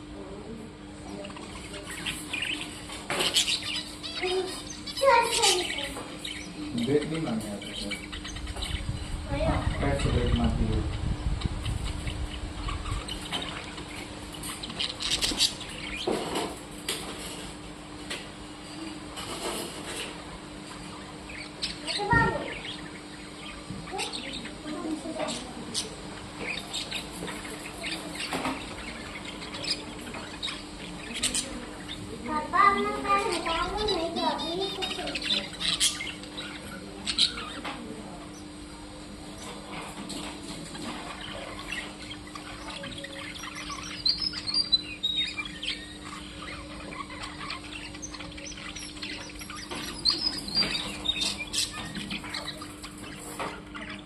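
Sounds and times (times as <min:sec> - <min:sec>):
faint steady hum: 0:00.0 - 0:54.0
small birds chirping: 0:00.0 - 0:54.0.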